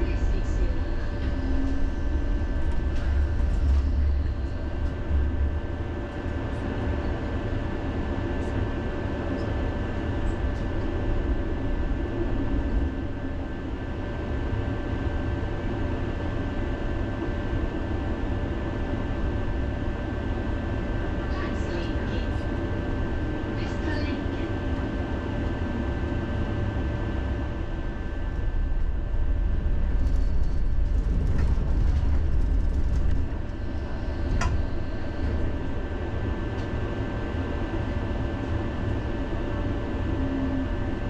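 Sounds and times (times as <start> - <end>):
constant high whine: 0.0 - 41.0
tram rumbling on rails: 0.0 - 41.0.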